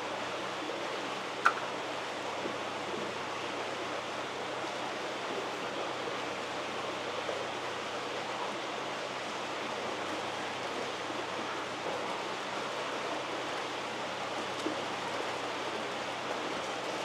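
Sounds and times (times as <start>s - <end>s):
running water rushing in tanks: 0.0s - 17.0s.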